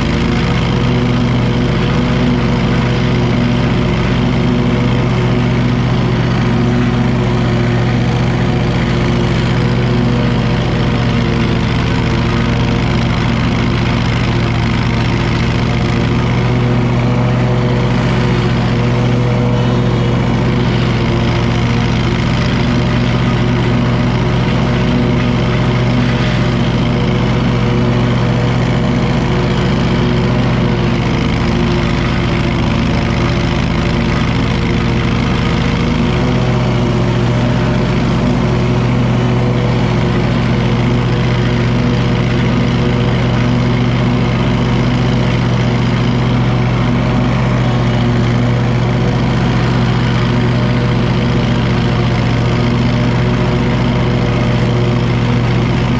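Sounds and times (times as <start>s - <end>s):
mower engine running: 0.0s - 55.9s.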